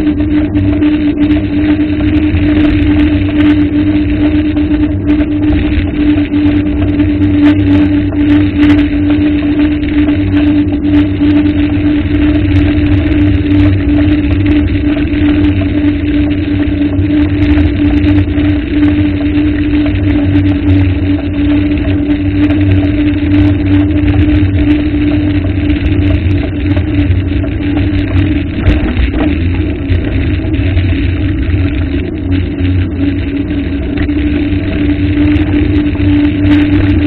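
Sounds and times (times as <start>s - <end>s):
engine drone: 0.0s - 37.0s.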